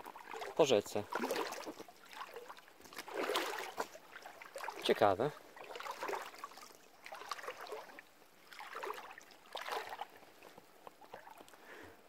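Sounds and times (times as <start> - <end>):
water sloshing under wading footsteps: 0.0 - 12.0.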